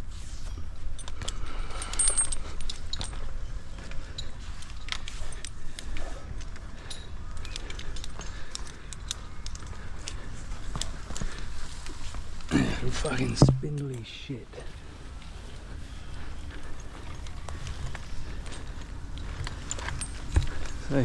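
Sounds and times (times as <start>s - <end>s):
metal climbing hardware clinking: 0.4s - 21.0s.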